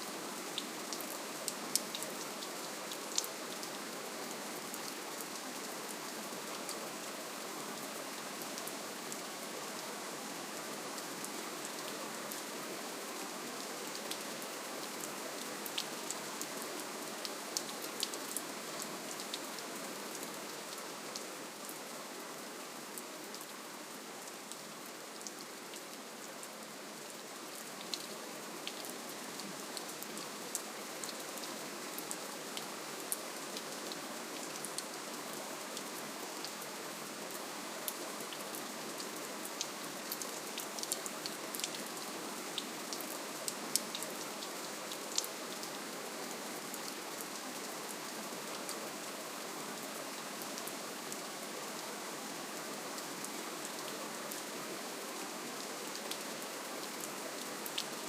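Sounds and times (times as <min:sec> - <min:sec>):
gentle rain hissing: 0:00.0 - 0:58.0
raindrops dripping on a surface: 0:00.2 - 0:45.9, 0:55.5 - 0:58.0.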